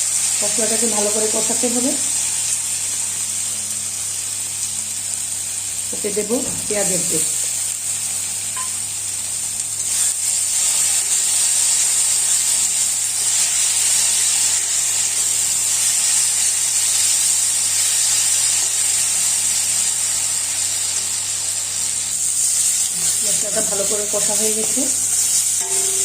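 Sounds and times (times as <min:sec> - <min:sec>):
spice paste sizzling in hot oil: 0:00.0 - 0:26.0.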